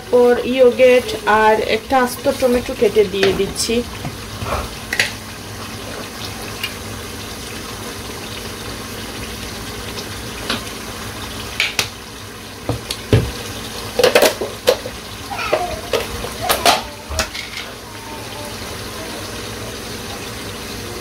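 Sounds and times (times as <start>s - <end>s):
curry simmering hiss: 0.0s - 21.0s.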